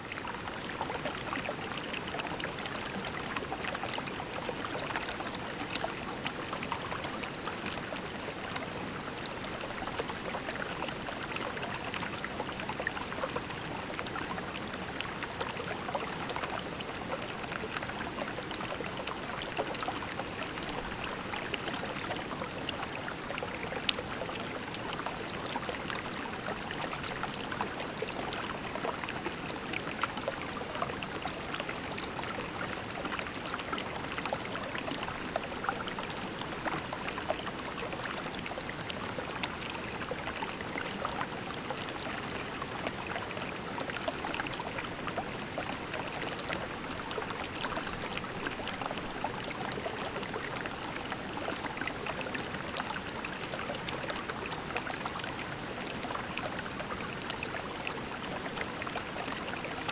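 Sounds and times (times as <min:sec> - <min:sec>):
creek babbling over pebbles: 0:00.0 - 0:59.9
small water splashes: 0:00.0 - 0:59.9.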